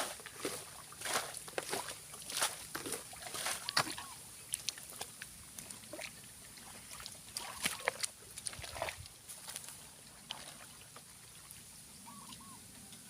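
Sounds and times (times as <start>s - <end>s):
muddy water splashing: 0.0s - 12.5s.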